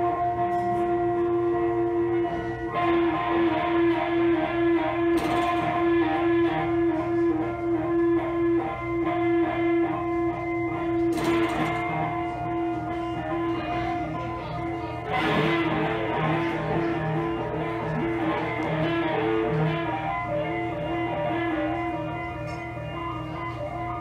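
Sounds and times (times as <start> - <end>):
droning tone with overtones: 0.0 - 24.0.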